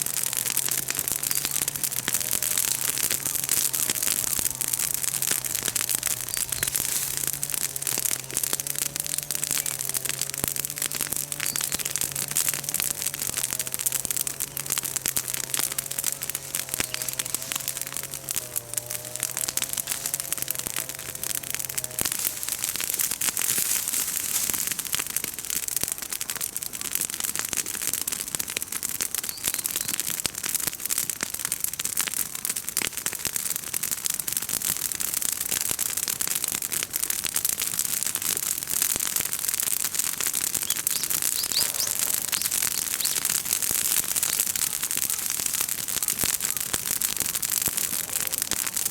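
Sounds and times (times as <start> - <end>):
bonfire crackling and popping: 0.0 - 48.9.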